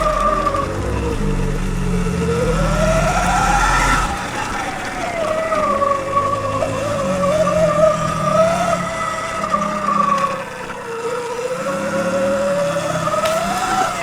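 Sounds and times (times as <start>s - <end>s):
dirt bike motor whining: 0.0s - 14.0s.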